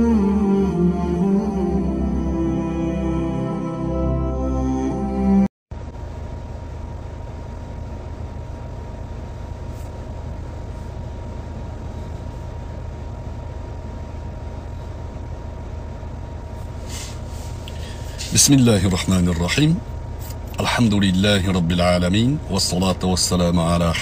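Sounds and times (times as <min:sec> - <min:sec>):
low hum inside car cabin: 0:00.0 - 0:03.2, 0:05.4 - 0:24.0.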